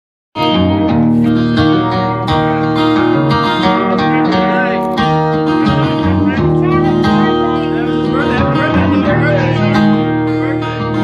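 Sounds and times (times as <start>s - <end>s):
steady bass line: 0.4s - 11.0s
strummed guitar: 0.4s - 11.0s.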